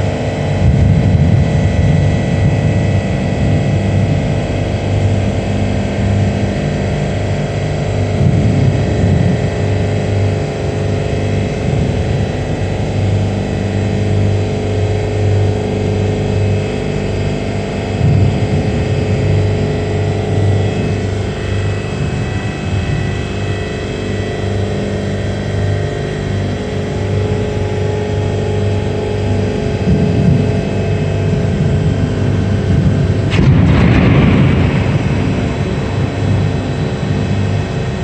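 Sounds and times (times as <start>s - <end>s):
loud mechanical hum: 0.0s - 38.0s.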